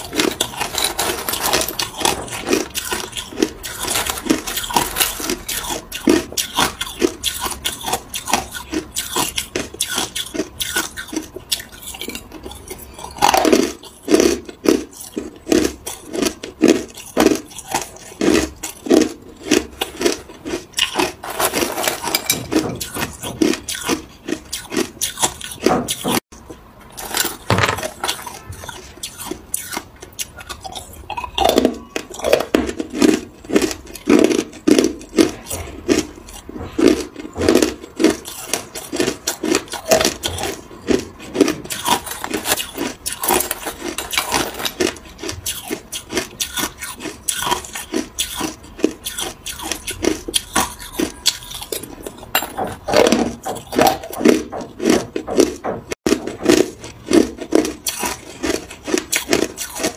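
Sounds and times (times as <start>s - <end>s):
ice crunched and chewed: 0.0s - 59.9s.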